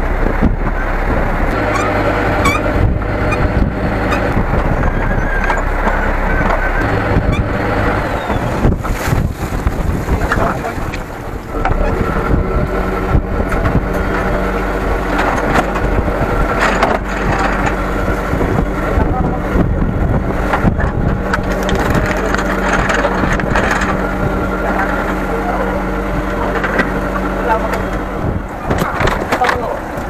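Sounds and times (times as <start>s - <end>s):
boat engine running: 0.0s - 30.0s
voices: 0.0s - 30.0s.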